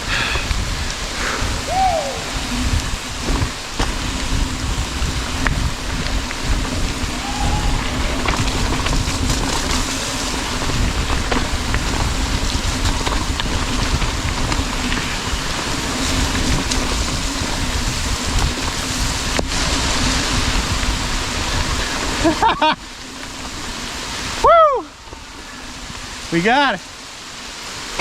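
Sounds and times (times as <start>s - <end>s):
bike rattles and clicks: 0.0s - 24.4s
tyre noise on trail: 0.0s - 28.0s
wind rushing on microphone: 0.0s - 28.0s.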